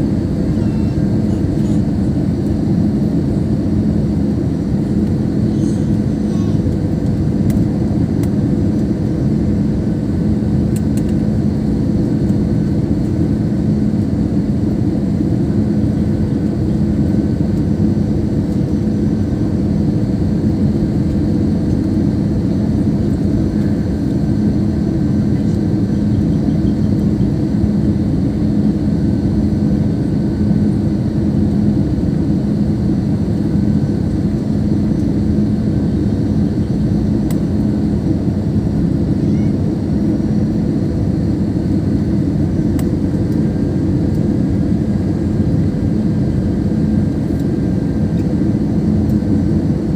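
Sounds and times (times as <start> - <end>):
jet engines and airflow rushing: 0.0 - 49.9
low constant hum: 0.0 - 49.9.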